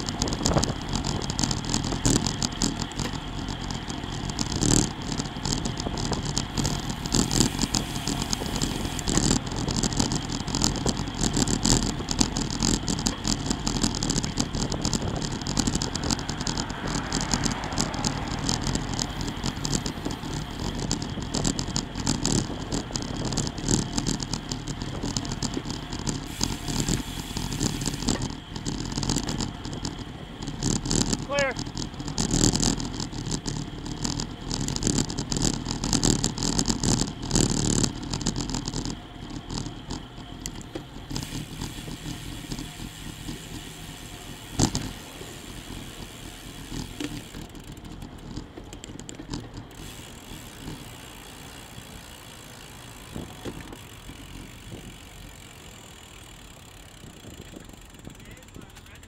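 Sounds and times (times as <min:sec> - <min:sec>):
wind noise: 0:00.0 - 0:50.9, 0:52.9 - 0:55.3
bicycle rattling and clattering: 0:00.0 - 0:59.0
bicycle tyre noise: 0:00.0 - 0:59.0.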